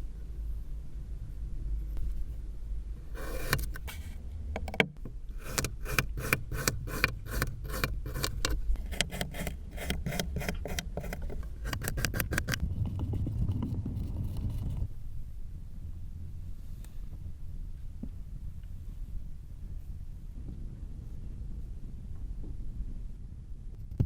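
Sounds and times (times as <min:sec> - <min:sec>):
low steady rumble: 0:00.0 - 0:23.8.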